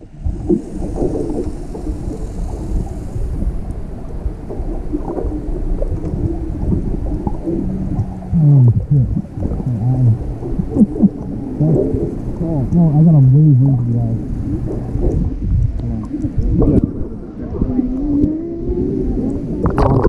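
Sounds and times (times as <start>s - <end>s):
low muffled pitch-sliding sounds: 0.0s - 20.0s
muffled underwater water rumble: 0.0s - 20.0s.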